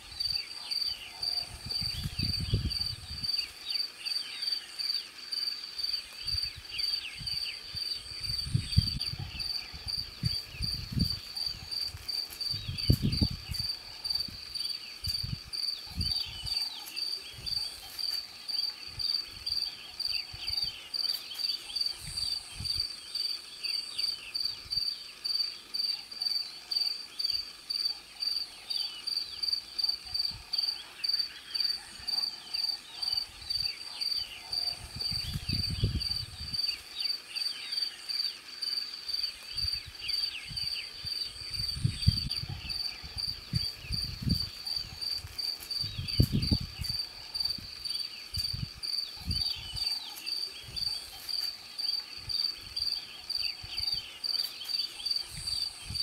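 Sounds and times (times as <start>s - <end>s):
cricket chirping: 0.0s - 56.0s
faint scratchy insect calls: 0.0s - 56.0s.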